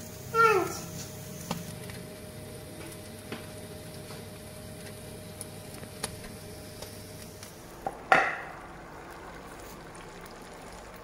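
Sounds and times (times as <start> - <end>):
fat sizzling in oven: 0.0 - 11.0
steady oven hum: 0.0 - 11.0.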